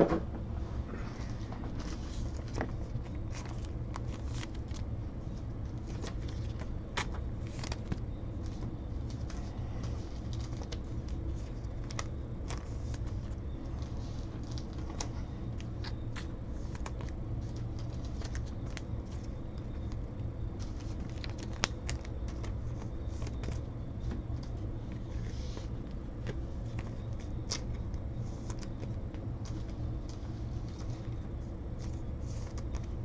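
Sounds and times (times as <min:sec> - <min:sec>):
steady low hum: 0:00.0 - 0:33.0
cards and foil packs clicking: 0:02.4 - 0:05.0, 0:05.8 - 0:25.4, 0:26.2 - 0:31.2, 0:31.8 - 0:33.0.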